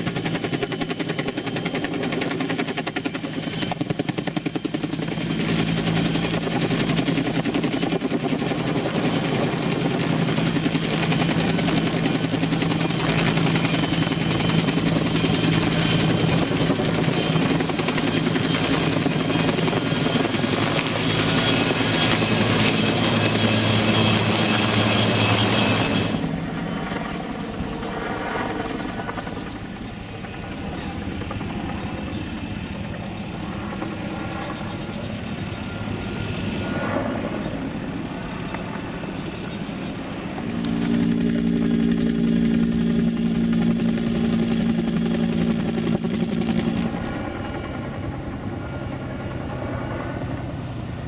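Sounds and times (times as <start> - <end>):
helicopter turbine and rotor noise: 0.0 - 51.0.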